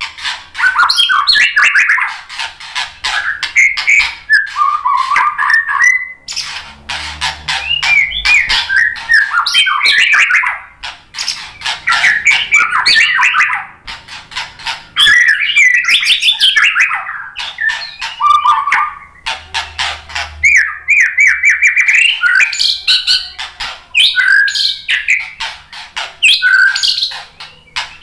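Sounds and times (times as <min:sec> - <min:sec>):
bird singing: 0:00.0 - 0:28.0.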